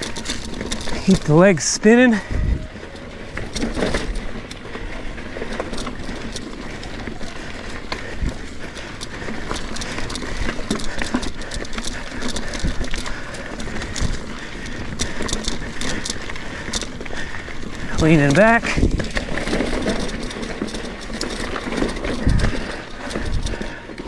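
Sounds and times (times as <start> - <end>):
bike tyres rolling over rock: 0.0 - 24.0.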